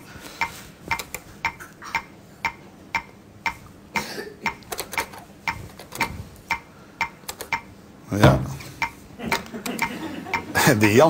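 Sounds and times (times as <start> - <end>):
electronic game ticks: 0.4 - 7.7, 8.8 - 11.0.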